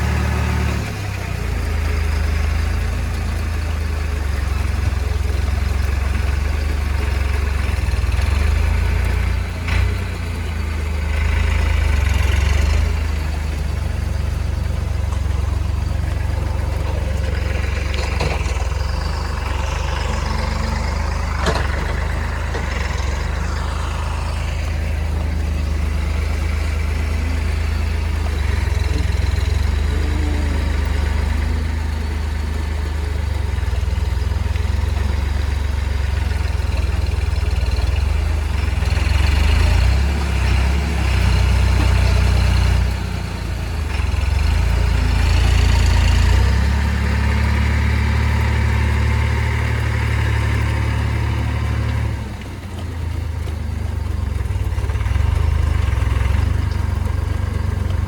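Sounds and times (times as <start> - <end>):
heavy vehicle engine droning: 0.0 - 58.0.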